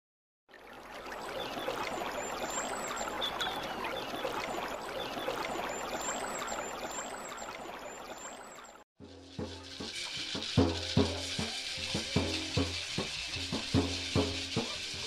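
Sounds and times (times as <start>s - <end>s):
water running and trickling: 0.5s - 15.0s.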